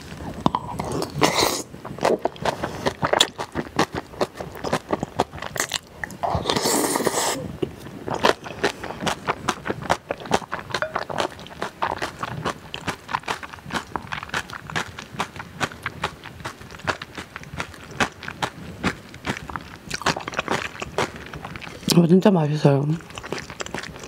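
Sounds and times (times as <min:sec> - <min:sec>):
wet chewing and lip smacking: 0:00.2 - 0:24.0
noodle slurps: 0:00.3 - 0:15.3, 0:17.6 - 0:22.0, 0:22.9 - 0:24.0.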